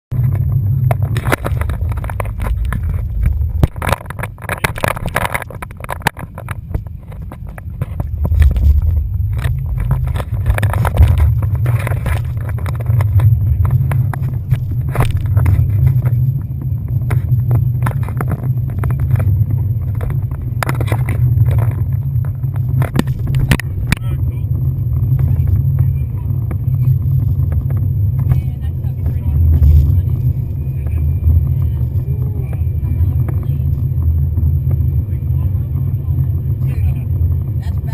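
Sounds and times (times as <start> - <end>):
motorboat engine and hull rumble: 0.0 - 37.9
wind noise on microphone: 0.1 - 37.9.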